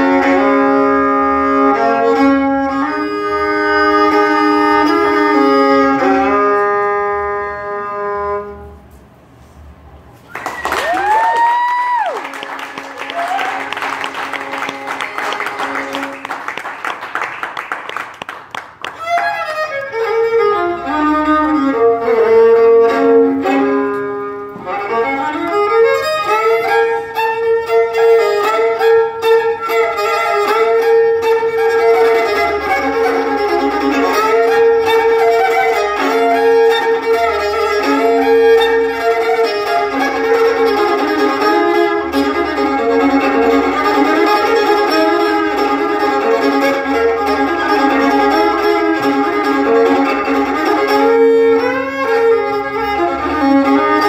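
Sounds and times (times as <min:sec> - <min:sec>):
solo fiddle playing: 0:00.0 - 0:08.8, 0:12.3 - 0:17.2, 0:18.8 - 0:54.0.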